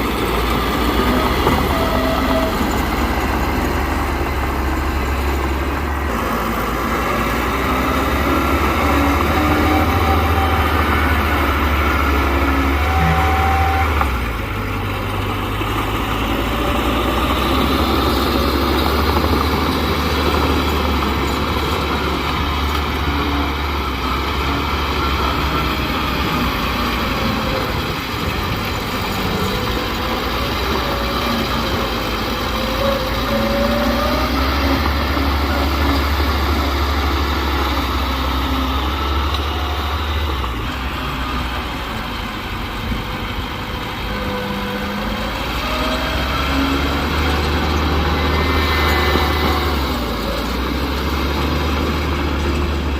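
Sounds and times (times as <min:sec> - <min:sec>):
bulldozer diesel engine rumbling: 0:00.0 - 0:52.9.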